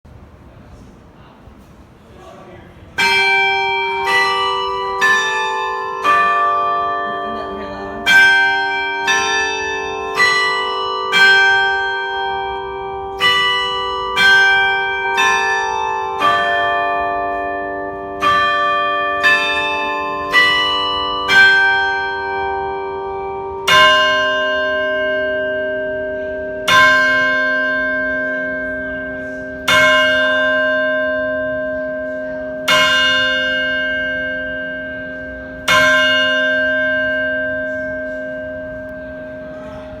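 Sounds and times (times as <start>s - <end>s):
bells chiming a tune: 3.0s - 40.0s
deep bell tolling: 3.0s - 40.0s.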